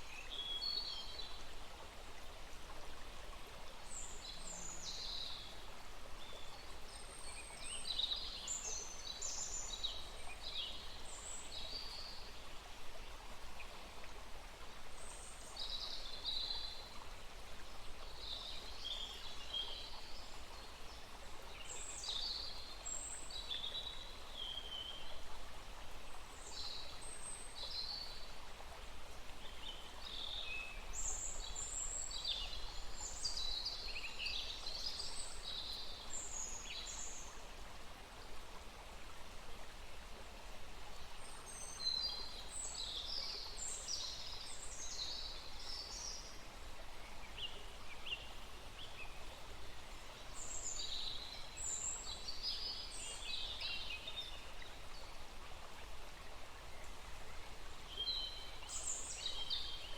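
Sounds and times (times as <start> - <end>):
faint rush of small stream: 0.0 - 59.9.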